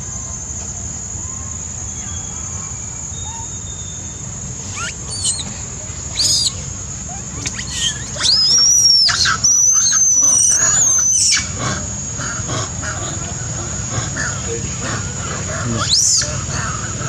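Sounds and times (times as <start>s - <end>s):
monkeys screaming: 1.9s - 17.0s.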